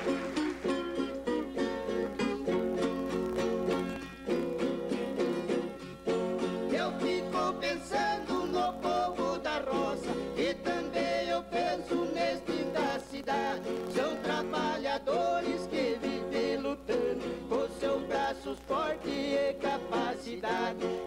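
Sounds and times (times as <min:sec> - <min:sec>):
folk guitars playing: 0:00.0 - 0:21.0.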